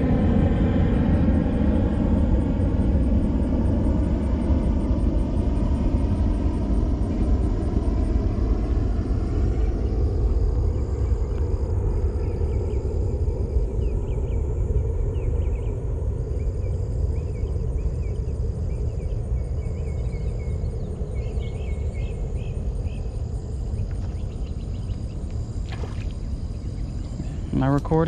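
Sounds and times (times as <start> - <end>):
insects buzzing: 0.0 - 28.0
low outdoor rumble: 0.0 - 28.0.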